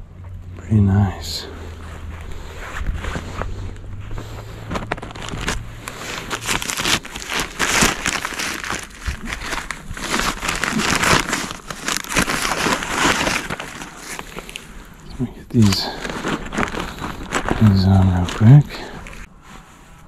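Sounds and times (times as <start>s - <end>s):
dry material rustling and crackling: 1.0s - 20.0s.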